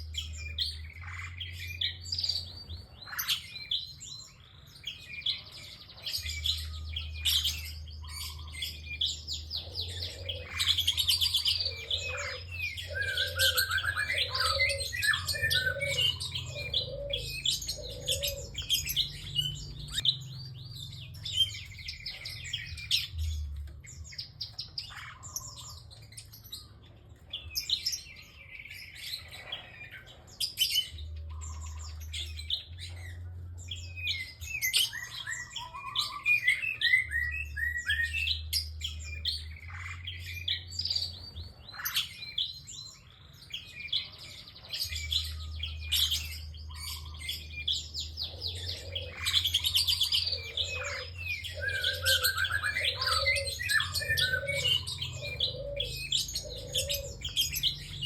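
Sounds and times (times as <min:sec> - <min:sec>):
bird chirping and trilling: 0:00.0 - 0:58.0.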